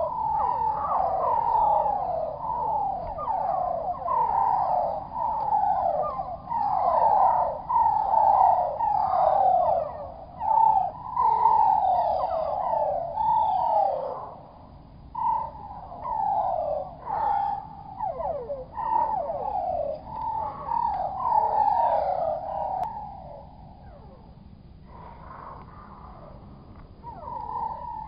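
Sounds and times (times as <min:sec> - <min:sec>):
slowed down bird calls: 0:00.0 - 0:28.0.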